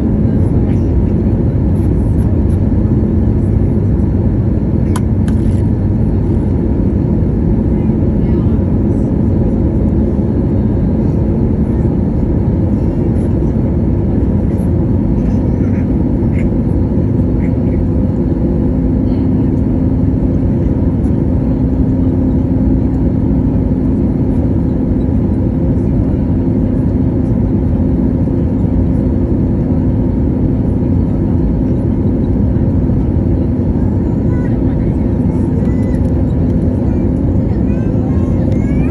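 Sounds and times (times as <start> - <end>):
jet engine hum: 0.0 - 38.9.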